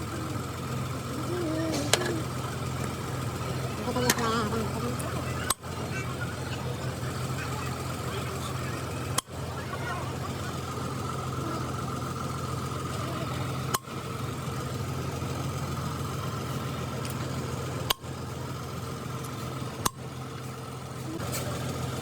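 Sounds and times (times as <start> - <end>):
machinery droning: 0.0 - 22.0.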